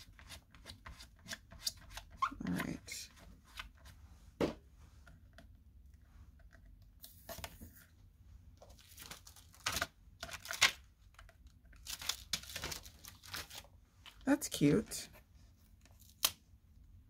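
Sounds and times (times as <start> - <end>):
hands handling craft supplies: 0.0 - 16.2.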